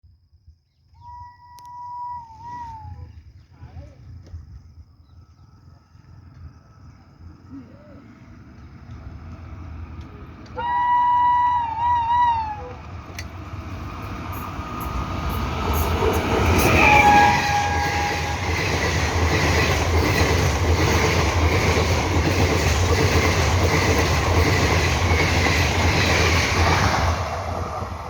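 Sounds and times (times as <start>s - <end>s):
train rumbling past: 4.0s - 28.0s.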